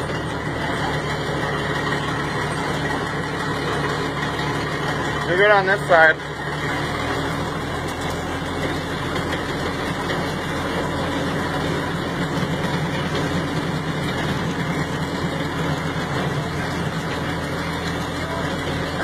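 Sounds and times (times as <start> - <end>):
tractor engine hum: 0.0 - 19.0.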